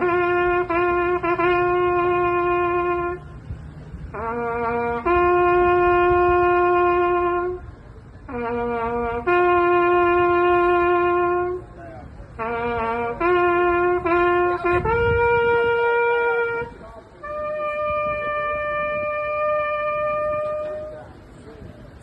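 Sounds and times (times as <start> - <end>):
trumpet playing slow call: 0.0 - 21.3.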